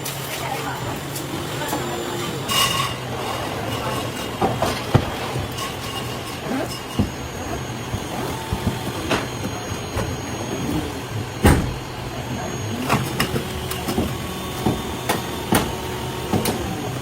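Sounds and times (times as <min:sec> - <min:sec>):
factory machinery humming: 0:00.0 - 0:17.0
knocks and clanks: 0:01.2 - 0:16.8.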